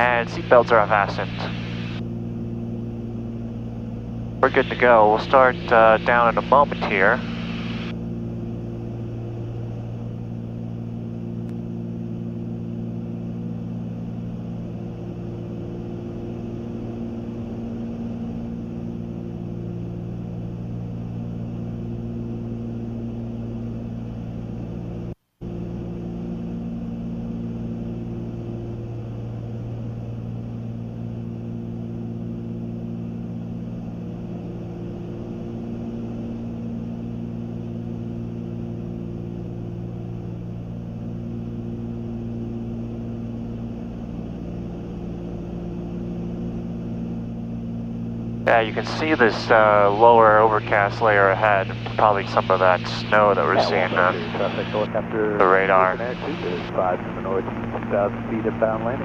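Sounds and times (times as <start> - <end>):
airplane engines droning in cabin: 0.0 - 59.0.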